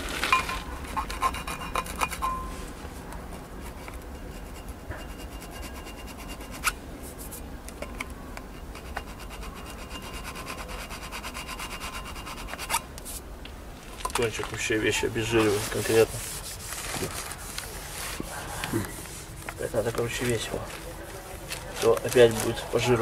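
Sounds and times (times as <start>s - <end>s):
scratchy rubbing strokes: 0.0s - 7.5s, 8.6s - 13.3s, 14.3s - 23.0s.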